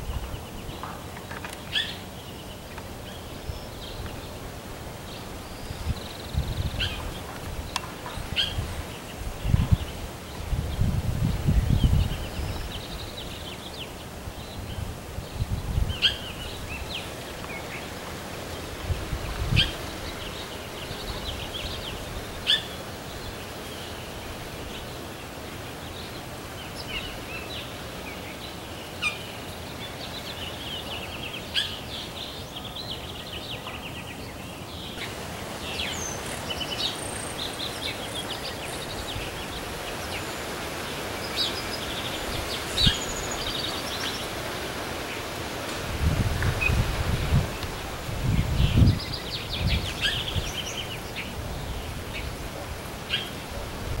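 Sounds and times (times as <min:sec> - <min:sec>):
outdoor background hiss: 0:00.0 - 0:54.0
songbirds chirping and trilling: 0:00.0 - 0:54.0.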